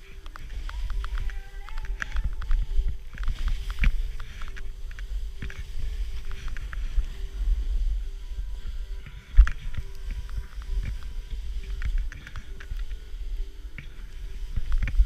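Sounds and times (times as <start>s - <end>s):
snowboard hissing in snow: 0.0s - 15.0s
wind rumbling on microphone: 0.0s - 15.0s.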